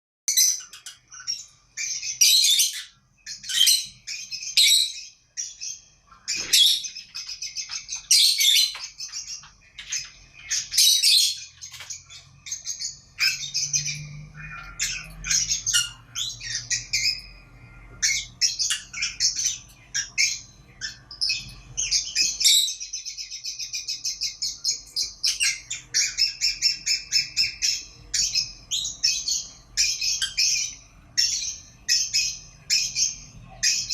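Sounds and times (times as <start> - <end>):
parrots chirping and squawking: 0.3 - 33.9.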